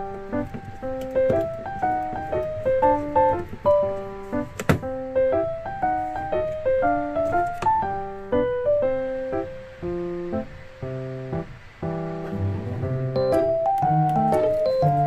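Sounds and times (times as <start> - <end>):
light keyboard melody: 0.0 - 15.0.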